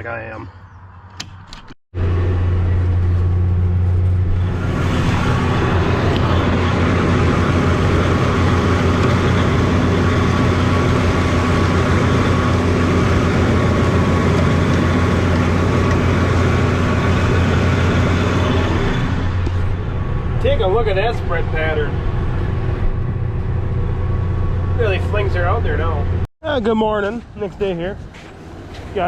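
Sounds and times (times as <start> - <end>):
tractor engine running: 2.0 - 26.2.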